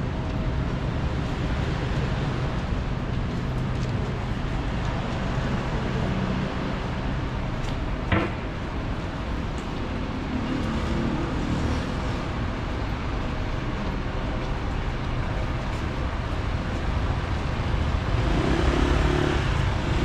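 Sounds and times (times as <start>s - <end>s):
city road traffic rumble: 0.0s - 20.0s.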